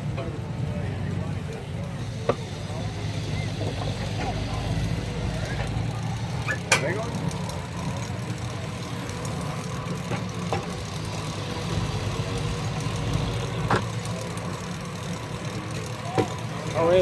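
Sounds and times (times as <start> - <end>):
steam traction engine rumbling: 0.0 - 17.0.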